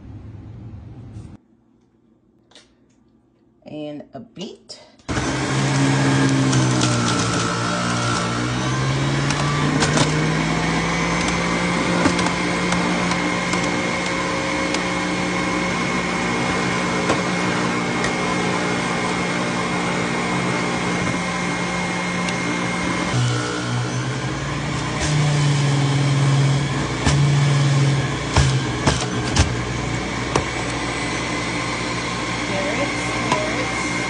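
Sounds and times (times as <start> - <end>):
electric juicer motor hum: 5.1 - 34.0.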